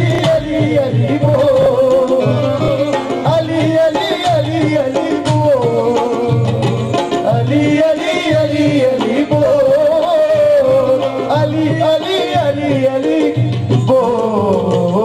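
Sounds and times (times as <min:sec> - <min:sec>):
hand drum beat: 0:00.0 - 0:15.0
harmonium: 0:00.0 - 0:15.0
man singing into a microphone: 0:00.0 - 0:15.0.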